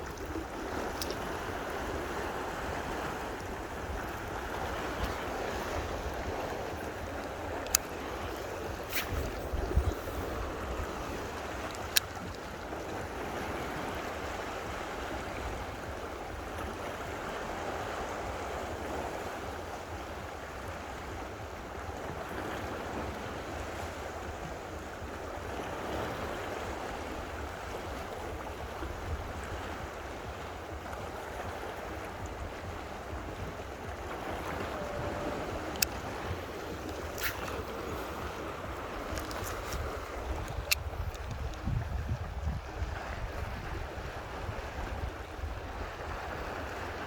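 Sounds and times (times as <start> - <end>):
water rushing: 0.0 - 47.0.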